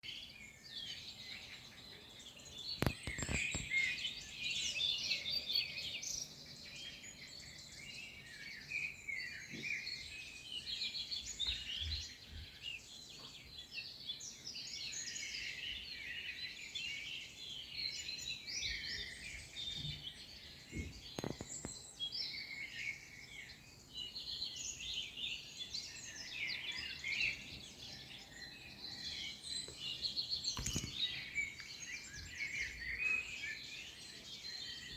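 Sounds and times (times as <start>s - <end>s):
birds singing and chirping: 0.0s - 34.9s.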